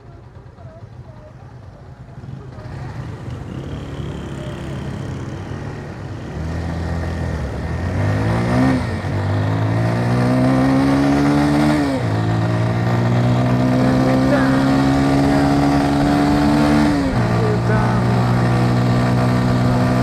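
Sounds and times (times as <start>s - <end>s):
motorcycle engine accelerating: 0.1s - 20.0s.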